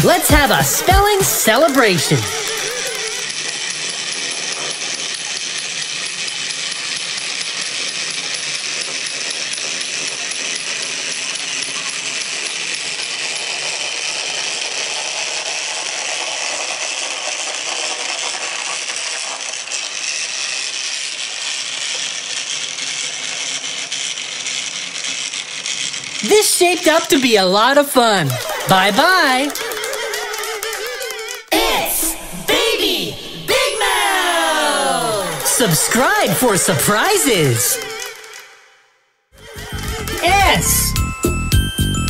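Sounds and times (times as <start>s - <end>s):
wind-up toys whirring and rattling: 0.0s - 38.8s, 39.4s - 42.0s.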